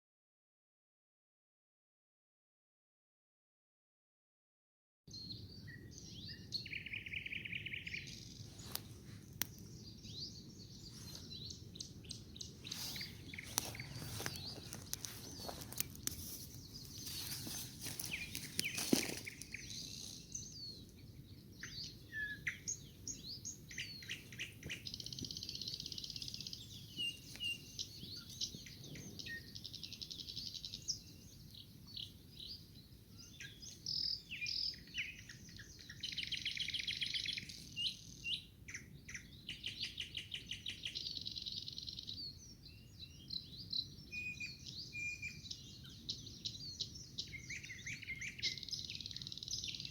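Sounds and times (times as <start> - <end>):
songbirds singing: 5.1 - 49.9.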